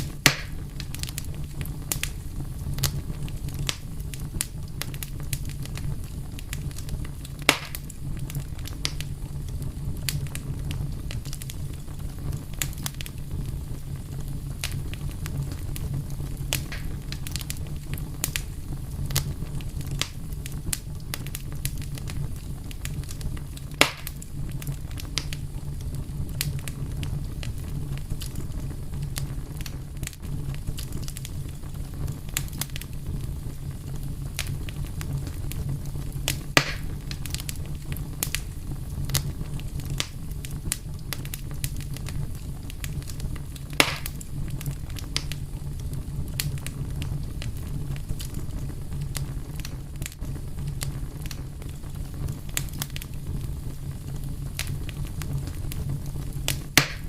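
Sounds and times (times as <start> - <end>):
fire crackling with pops: 0.0 - 57.0
low fire rumble: 0.0 - 57.0.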